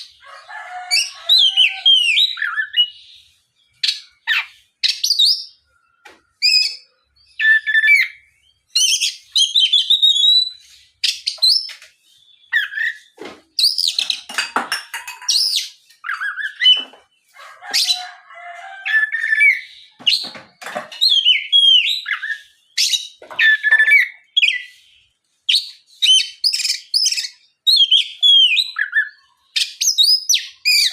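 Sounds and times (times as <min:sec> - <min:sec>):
bird singing: 0:00.0 - 0:30.9.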